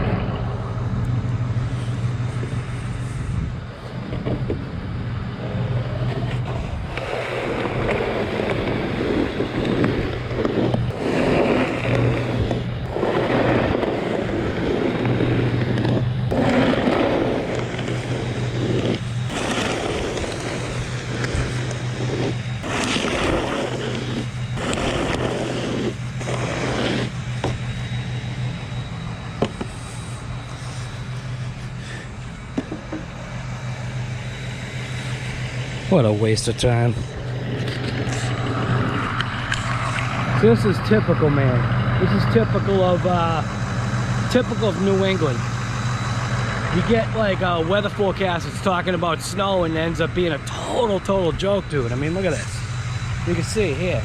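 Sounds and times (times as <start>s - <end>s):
vehicle engine idling: 0.0s - 54.0s
snow scraping: 1.6s - 3.3s, 5.5s - 28.9s, 34.8s - 43.5s, 44.2s - 54.0s.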